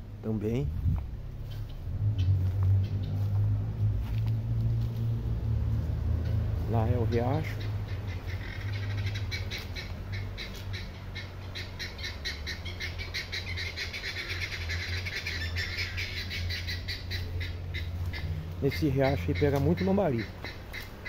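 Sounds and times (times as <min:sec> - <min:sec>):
birds chirping rapidly: 0:00.0 - 0:21.0
steady low rumble: 0:00.0 - 0:21.0.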